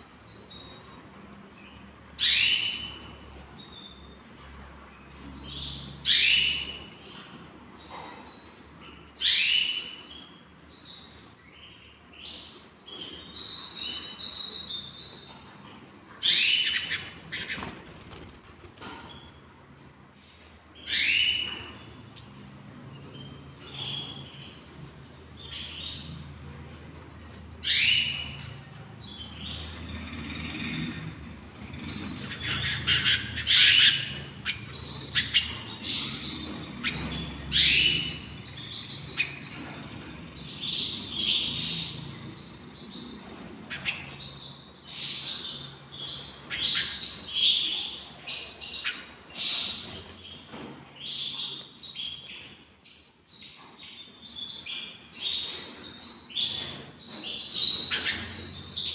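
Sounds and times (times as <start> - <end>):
canaries chirping: 0.0 - 58.9.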